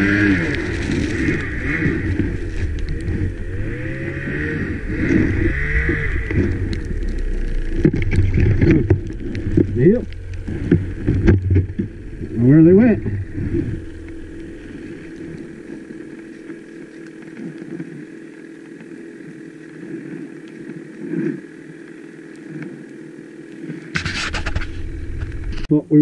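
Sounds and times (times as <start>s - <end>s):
rush of noise: 0.0s - 22.2s
snowmobile engine running: 0.0s - 25.9s.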